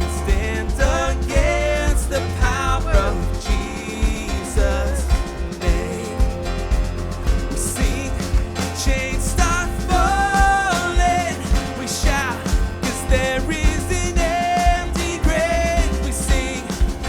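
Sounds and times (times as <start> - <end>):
band music with drums: 0.0 - 17.0.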